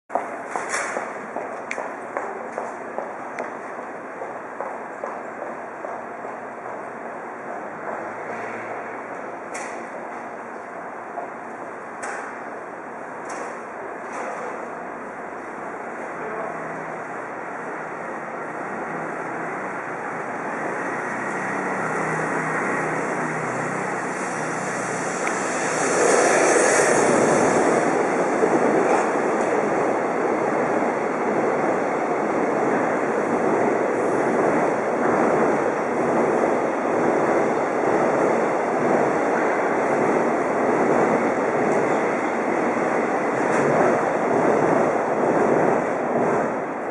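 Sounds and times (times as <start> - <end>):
train wheels rumbling on rails: 0.1 - 46.9.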